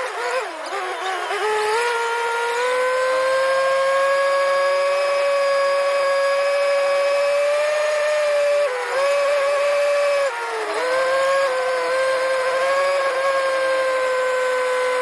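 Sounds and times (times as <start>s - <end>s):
backhoe engine whining: 0.0s - 15.0s.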